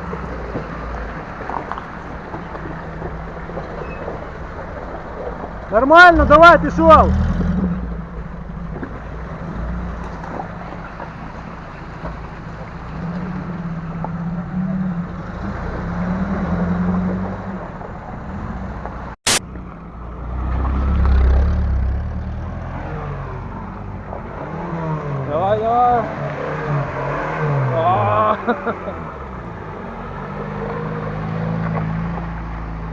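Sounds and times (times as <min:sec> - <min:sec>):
car engine under load: 0:00.0 - 0:32.9.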